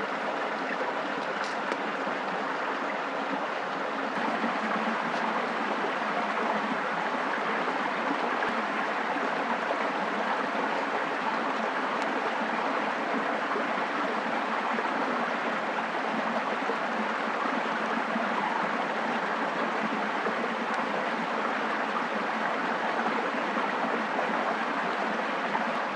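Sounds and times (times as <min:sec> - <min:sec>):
rushing water: 0:00.0 - 0:25.9.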